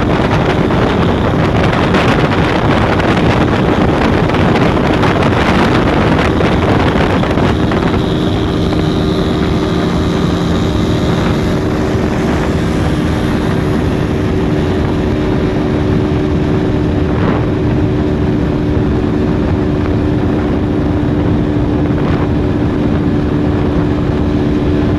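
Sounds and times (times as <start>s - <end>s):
motorcycle engine at speed: 0.0s - 24.9s
wind rush over microphone: 0.0s - 24.9s.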